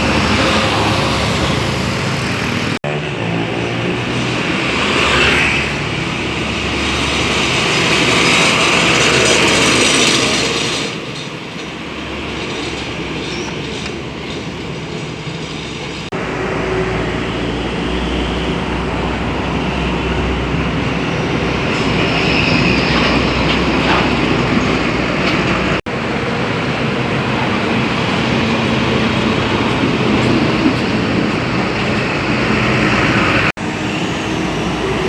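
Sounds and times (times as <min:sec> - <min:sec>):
heavy trucks driving past: 0:00.0 - 0:35.0.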